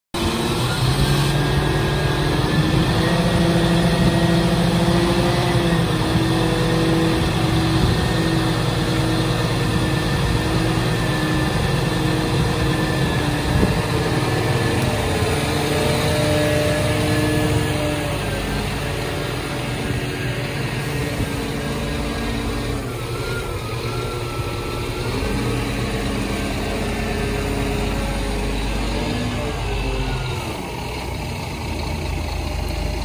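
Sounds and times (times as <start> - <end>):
hydraulic whine: 0.1 - 33.0
truck diesel engine drone: 0.1 - 33.0.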